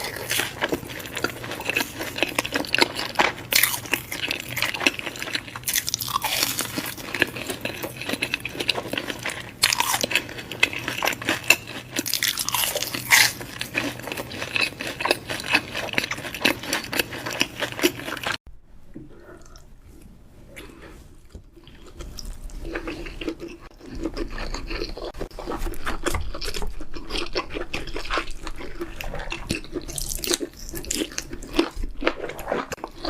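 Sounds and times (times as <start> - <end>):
crunchy chewing of crisp food: 0.0 - 18.4, 20.5 - 33.0.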